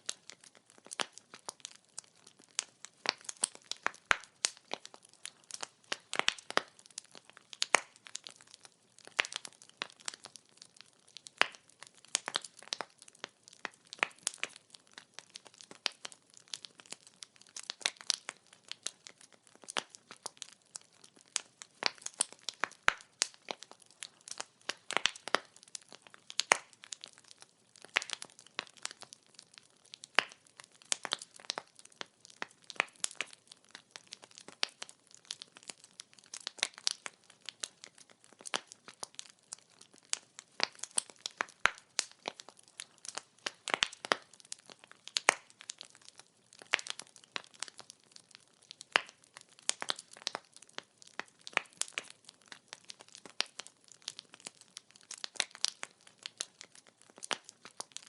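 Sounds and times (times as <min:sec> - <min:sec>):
firewood crackling: 0:00.0 - 0:58.0.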